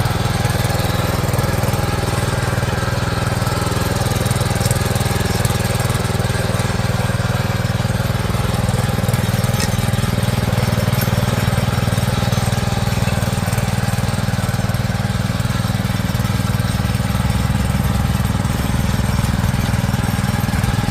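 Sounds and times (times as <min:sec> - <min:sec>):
tiller engine running: 0:00.0 - 0:20.9.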